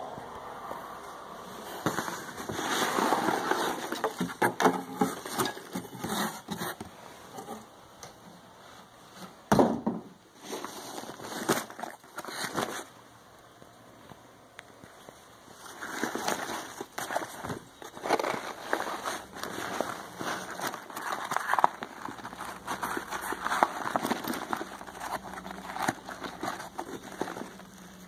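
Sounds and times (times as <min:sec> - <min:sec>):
cardboard and fabric rustling: 0:01.4 - 0:07.7, 0:10.3 - 0:13.0, 0:14.0 - 0:28.0.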